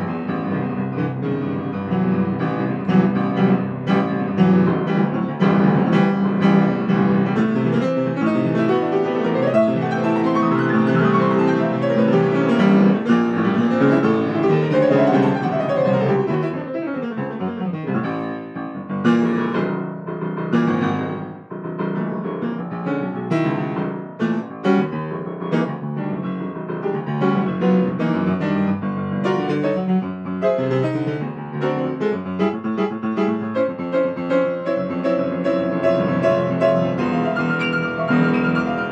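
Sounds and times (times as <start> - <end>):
grand piano improvisation: 0.0 - 38.9.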